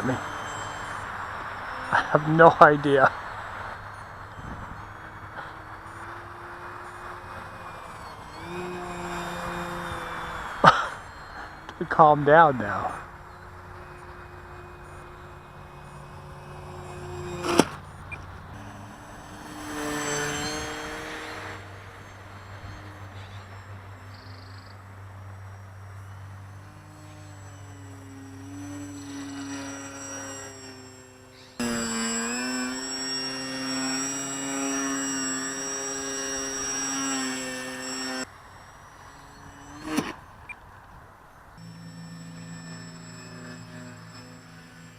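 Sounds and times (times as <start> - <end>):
electric model plane motor whine: 0.0 - 44.9.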